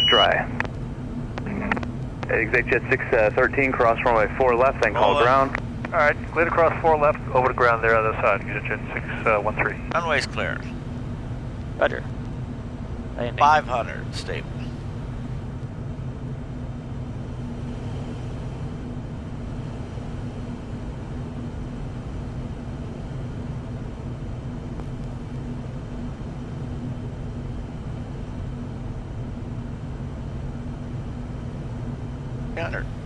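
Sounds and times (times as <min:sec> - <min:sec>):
low jet engine hum: 0:00.0 - 0:33.0.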